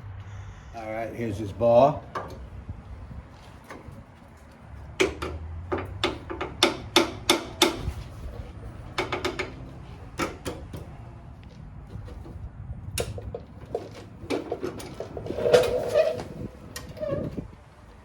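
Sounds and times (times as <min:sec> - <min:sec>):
metal tools clanking: 0:01.3 - 0:18.0.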